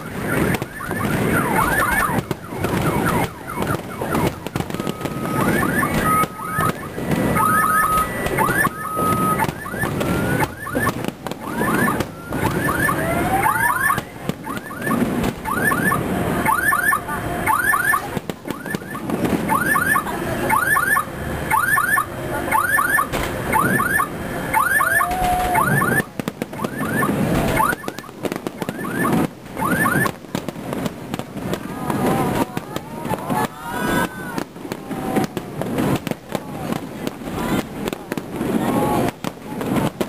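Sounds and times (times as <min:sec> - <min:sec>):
fireworks bangs with rumble: 0:00.0 - 0:40.0.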